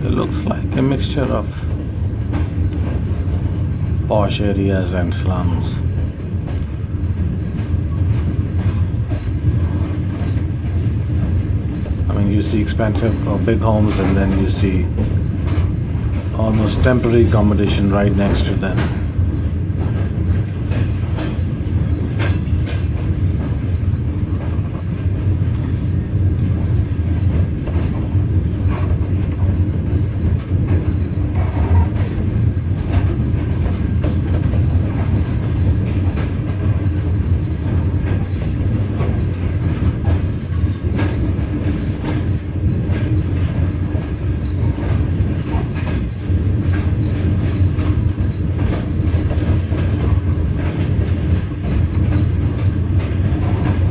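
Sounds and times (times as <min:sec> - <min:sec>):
train rumble: 0:00.0 - 0:53.9
wheels clattering on track: 0:00.1 - 0:53.9.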